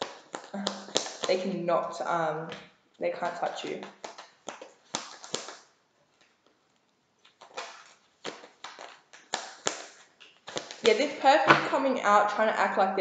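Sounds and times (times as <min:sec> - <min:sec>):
cards being shuffled: 0:00.0 - 0:01.6, 0:02.5 - 0:11.7.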